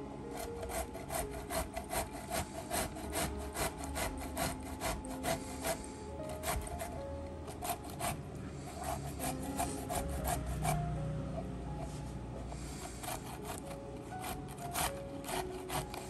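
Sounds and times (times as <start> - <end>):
vegetable grating on metal grater: 0.2 - 11.0, 11.8 - 16.0.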